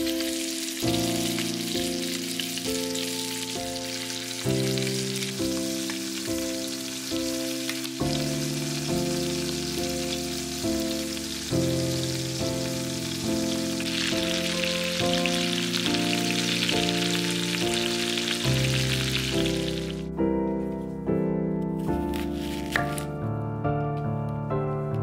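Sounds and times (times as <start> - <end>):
food sizzling in a pan: 0.0 - 20.0
soft background music: 0.0 - 25.0.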